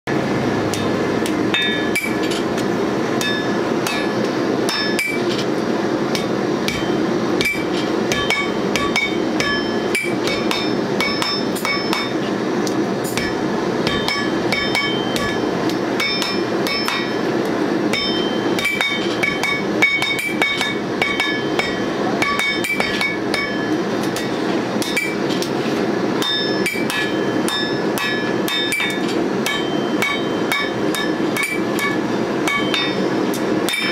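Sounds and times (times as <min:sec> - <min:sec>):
steady rushing noise: 0:00.1 - 0:33.9
hammer blows on anvil: 0:00.7 - 0:02.5, 0:03.2 - 0:05.4, 0:06.1 - 0:12.3, 0:13.1 - 0:25.3, 0:26.2 - 0:33.9.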